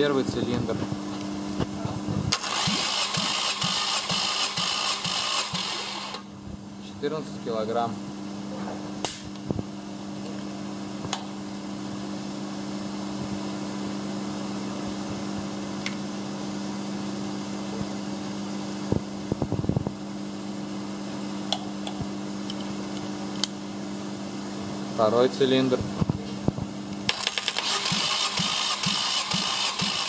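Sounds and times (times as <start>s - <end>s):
workshop equipment hum: 0.0s - 30.0s.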